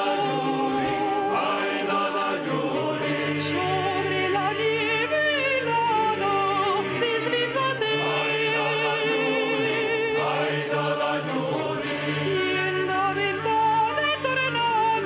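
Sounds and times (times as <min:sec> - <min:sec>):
instrumental accompaniment: 0:00.0 - 0:15.0
soprano singing with vibrato: 0:00.0 - 0:15.0.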